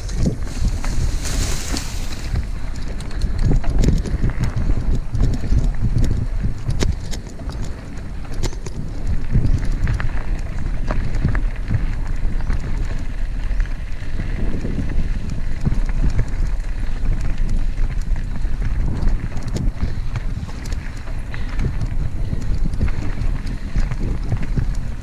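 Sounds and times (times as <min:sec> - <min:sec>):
bike knocks and rattles: 0:00.0 - 0:25.0
tyres rumbling on rough ground: 0:00.0 - 0:25.0
wind on microphone: 0:00.0 - 0:25.0.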